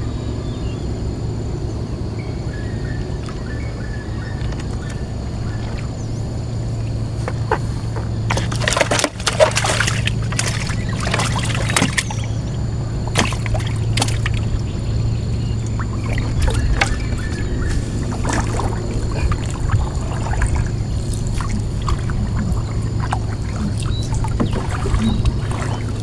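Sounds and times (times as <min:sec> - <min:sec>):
steady low hum: 0:00.0 - 0:26.0
water splashing and trickling: 0:03.0 - 0:26.0.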